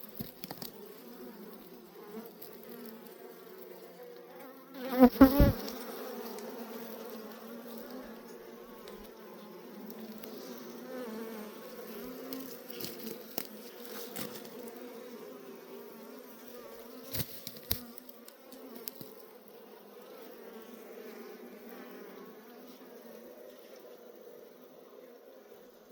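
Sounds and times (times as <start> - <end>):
bees buzzing: 0.8 - 23.2.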